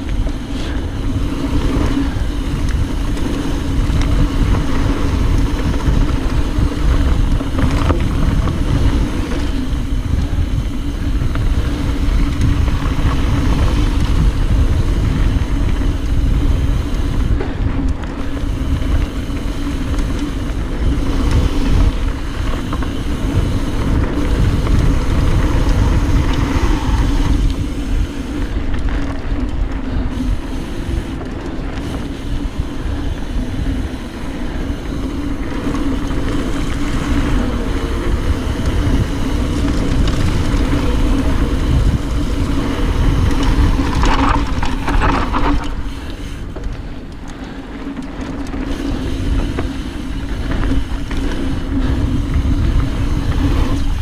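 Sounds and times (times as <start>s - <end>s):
bike rattling: 0.0s - 54.0s
tyres rumbling on dirt: 0.0s - 54.0s
wind buffeting microphone: 0.0s - 54.0s.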